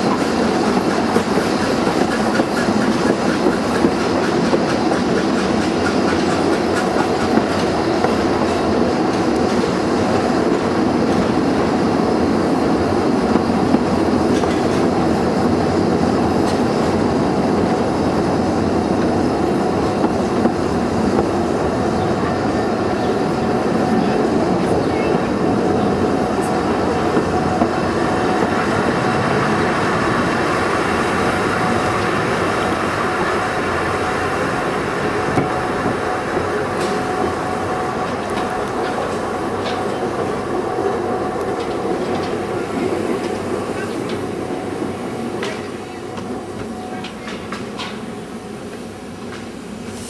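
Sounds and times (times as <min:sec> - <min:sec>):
wheels rumbling on rail: 0:00.0 - 0:50.0.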